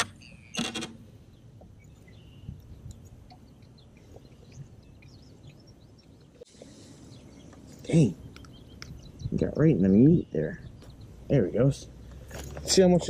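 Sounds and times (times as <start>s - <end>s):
faint bird chirps: 0.1s - 0.7s, 1.3s - 11.8s.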